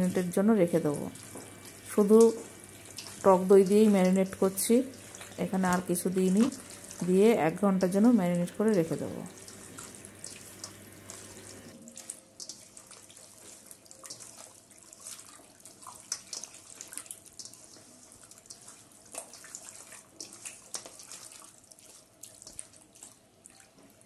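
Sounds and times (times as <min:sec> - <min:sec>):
meat squelching in yogurt: 0:01.2 - 0:07.5, 0:08.7 - 0:24.0.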